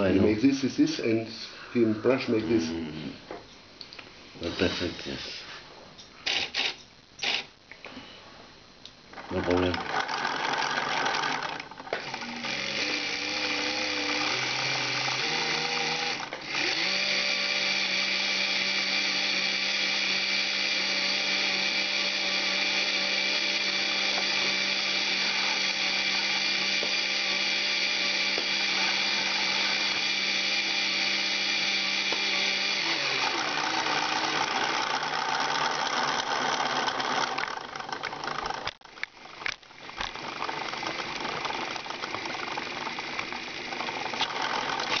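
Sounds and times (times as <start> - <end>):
toy electric motors whining: 6.2 - 7.5, 9.1 - 45.0.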